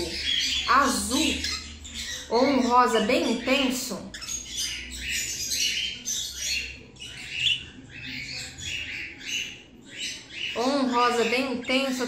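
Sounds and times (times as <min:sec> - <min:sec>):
budgerigar chattering: 0:00.0 - 0:12.0.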